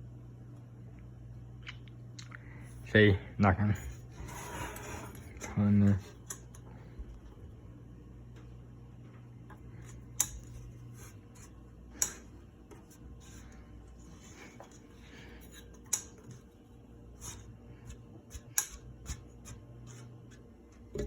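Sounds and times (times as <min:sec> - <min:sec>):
ceiling fan motor humming: 0:00.0 - 0:21.0.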